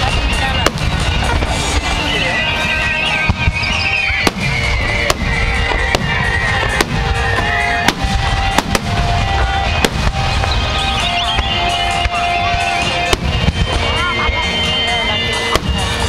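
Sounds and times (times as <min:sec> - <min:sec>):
low rumble of fireworks: 0:00.0 - 0:16.0.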